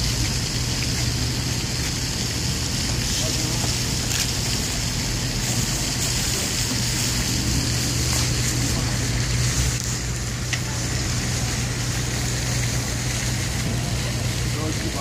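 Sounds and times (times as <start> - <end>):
engine idling: 0.0 - 15.0
steady hiss: 0.0 - 15.0.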